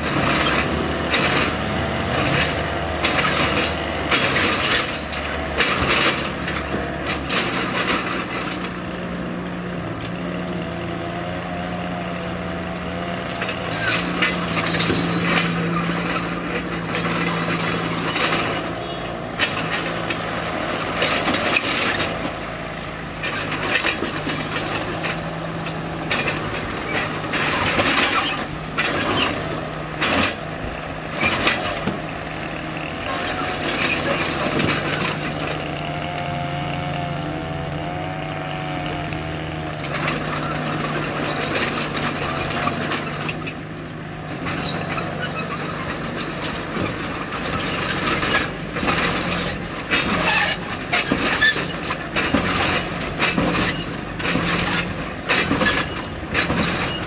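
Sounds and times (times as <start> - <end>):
bulldozer diesel engine running: 0.0 - 57.0
clanks of tracks and rock: 0.0 - 57.0.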